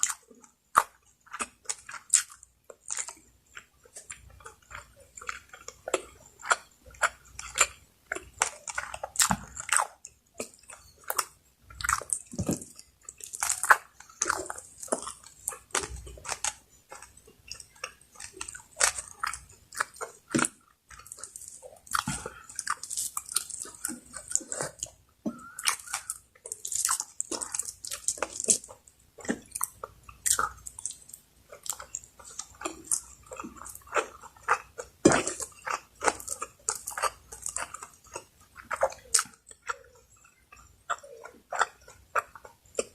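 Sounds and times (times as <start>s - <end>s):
person chewing and biting: 0.0s - 42.9s
wet mouth clicks and smacks: 0.0s - 42.9s.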